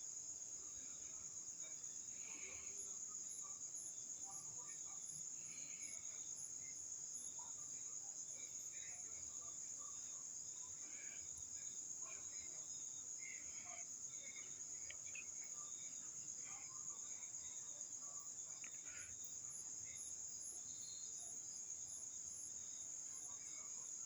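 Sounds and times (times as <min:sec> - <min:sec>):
insect chirps: 0:00.0 - 0:24.0
insects trilling: 0:00.1 - 0:24.0.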